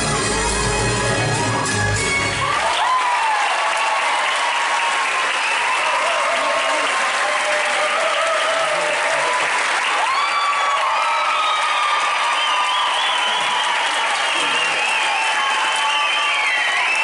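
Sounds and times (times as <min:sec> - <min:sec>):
audience applauding: 0:01.2 - 0:17.0
voices cheering: 0:01.6 - 0:17.0.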